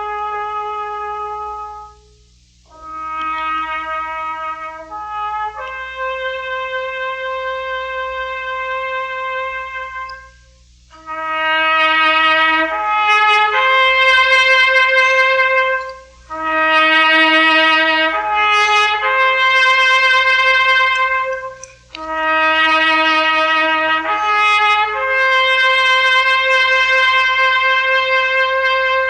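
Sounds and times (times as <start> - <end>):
trumpet playing a slow call: 0.0 - 29.0.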